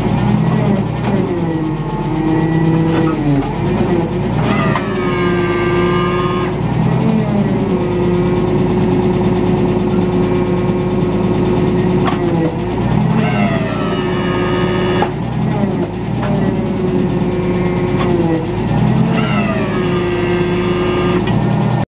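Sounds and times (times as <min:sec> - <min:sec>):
hydraulic pump whining: 0:00.0 - 0:21.8
forklift engine running: 0:00.0 - 0:21.9.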